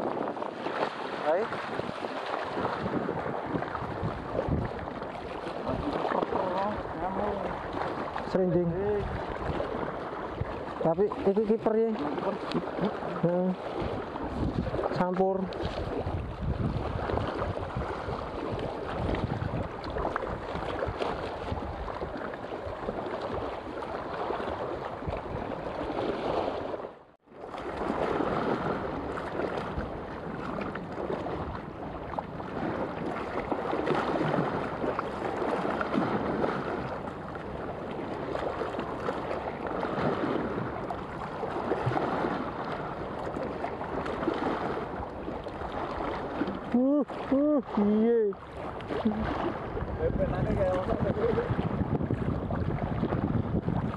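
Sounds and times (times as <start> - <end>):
wind noise on microphone: 0.0 - 26.9, 27.5 - 53.9
sea waves lapping: 0.0 - 53.9.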